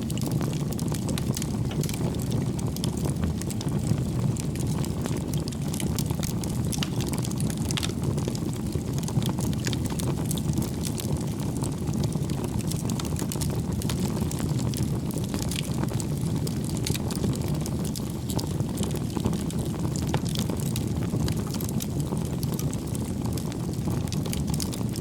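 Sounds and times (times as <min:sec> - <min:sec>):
firewood crackling and popping: 0:00.0 - 0:25.0
low rumble of fire: 0:00.0 - 0:25.0.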